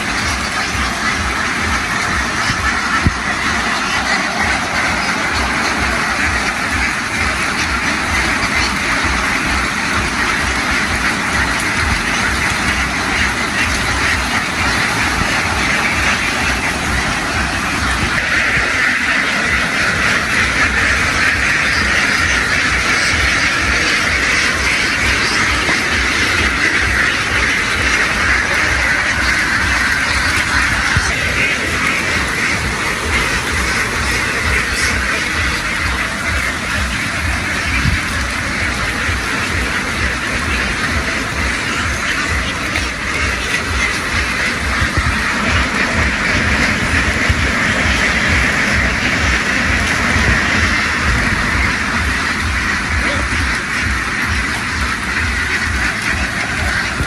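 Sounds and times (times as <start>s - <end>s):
flock of ducks quacking: 0.0s - 57.0s.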